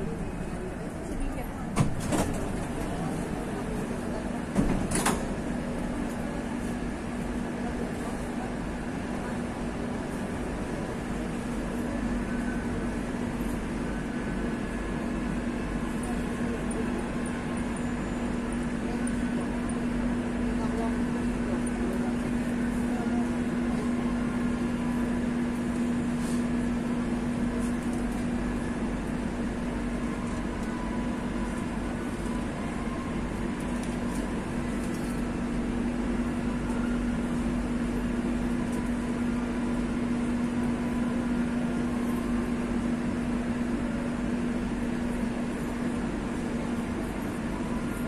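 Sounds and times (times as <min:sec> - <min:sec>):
train carriage equipment hum: 0:00.0 - 0:48.0.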